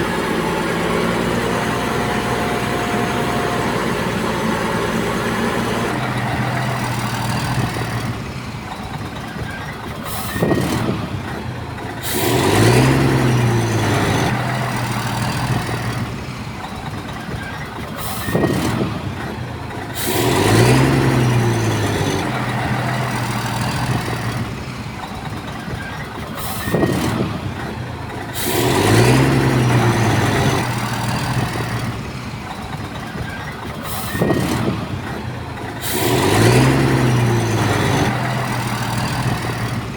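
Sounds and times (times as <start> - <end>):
bulldozer diesel engine revving: 0.0 - 39.9.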